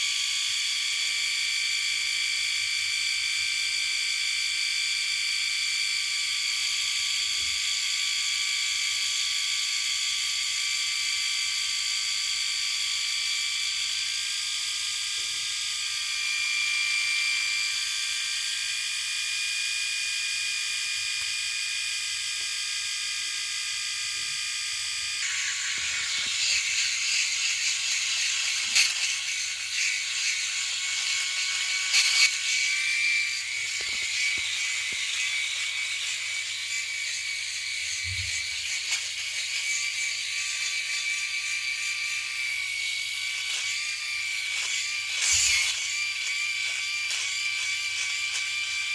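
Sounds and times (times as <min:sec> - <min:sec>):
electric shaver buzzing: 0:00.0 - 0:48.9.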